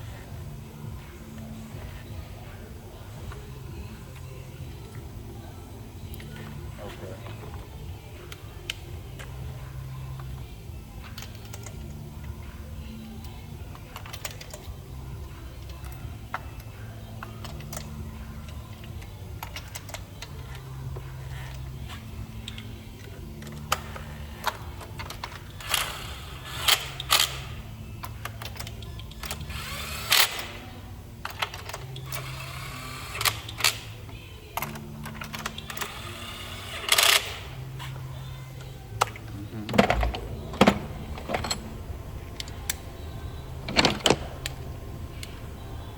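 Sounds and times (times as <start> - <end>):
faint background music bass line: 0.0 - 45.9.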